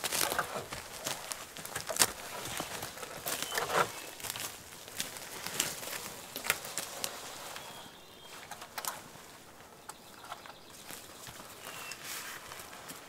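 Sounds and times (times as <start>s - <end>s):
sticks snapping and leaves rustling: 0.0s - 9.3s, 9.9s - 13.0s.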